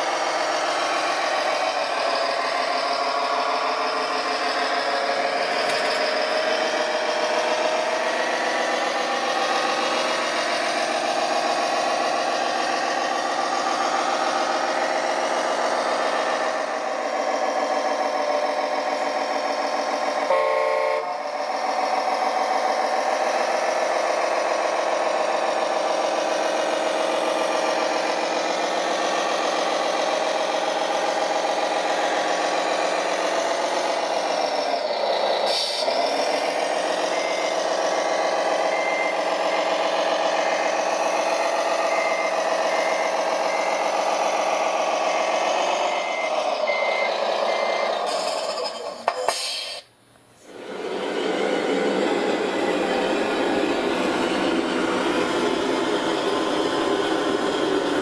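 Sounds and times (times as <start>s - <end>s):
reversing beeper: 0.0s - 49.7s, 51.2s - 58.0s
diesel engine running: 0.0s - 58.0s.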